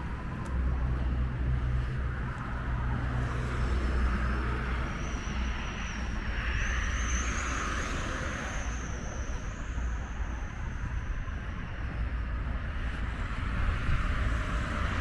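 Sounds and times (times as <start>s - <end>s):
street traffic: 0.0s - 15.0s
wind rumbling on microphone: 0.0s - 15.0s.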